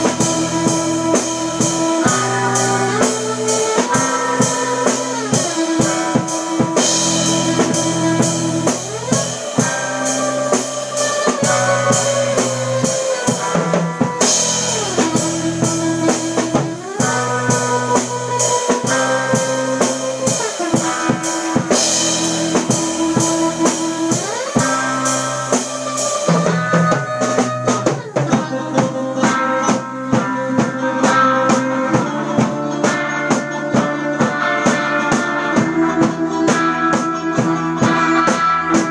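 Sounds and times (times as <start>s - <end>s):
surf rock band playing: 0.0s - 38.9s.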